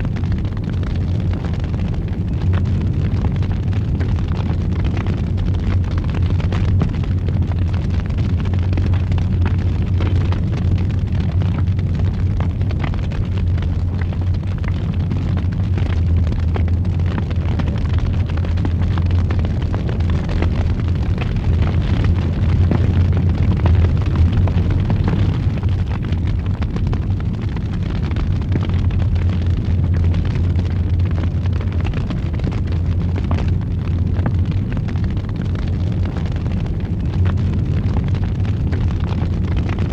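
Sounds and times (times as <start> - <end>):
fire crackling and popping: 0.0 - 39.9
wood fire roaring: 0.0 - 39.9.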